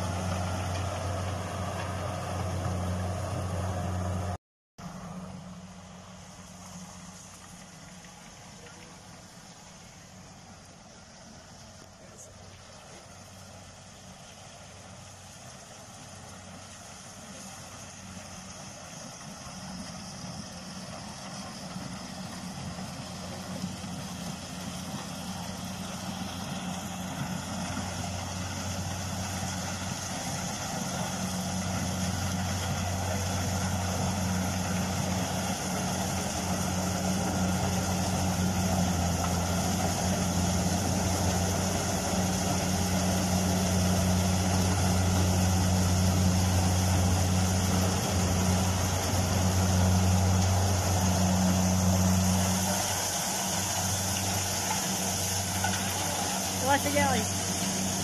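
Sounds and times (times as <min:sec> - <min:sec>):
combine harvester engine humming: 0:00.0 - 0:58.0.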